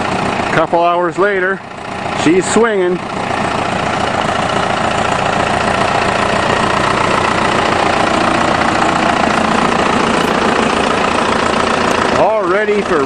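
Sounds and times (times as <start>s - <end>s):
backhoe engine idling: 0.0s - 13.0s.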